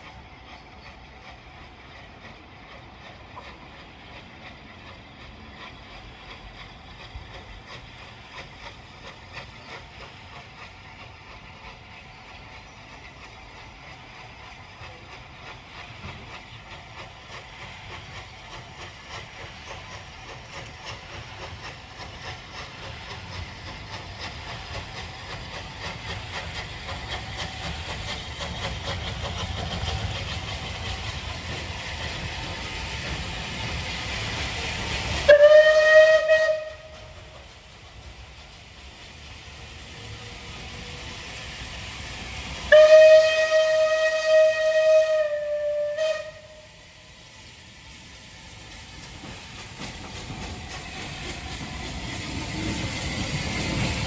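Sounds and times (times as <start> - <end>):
steam locomotive rumbling: 0.0 - 54.0.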